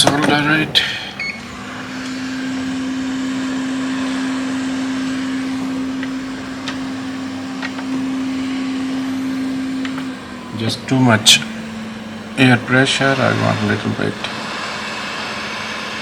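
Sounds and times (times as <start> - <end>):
low hum: 0.0 - 15.5.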